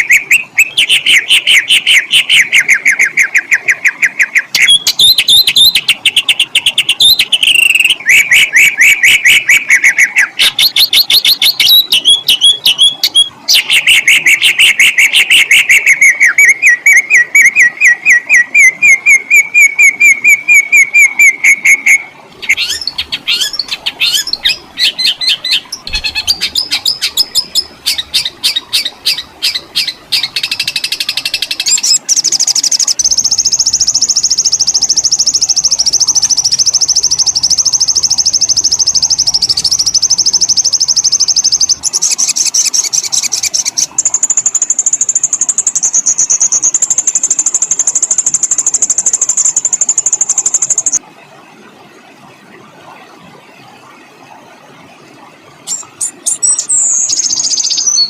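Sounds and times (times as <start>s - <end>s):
songbird singing trills: 0.0s - 51.0s, 55.7s - 58.0s.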